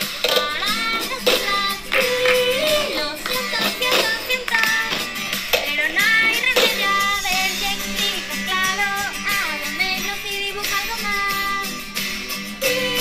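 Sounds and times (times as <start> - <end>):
backing track music: 0.0 - 13.0
woman singing: 0.3 - 13.0.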